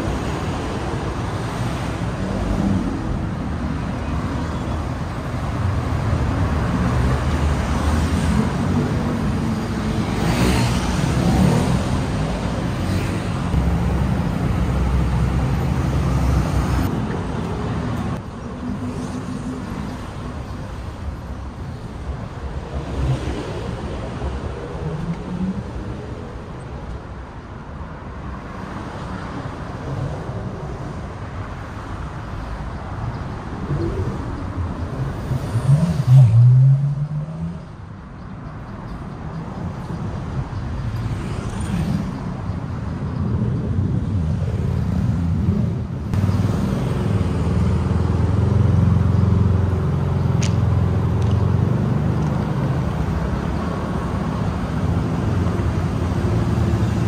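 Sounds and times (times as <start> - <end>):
passing cars and motorbikes: 0.0 - 57.0.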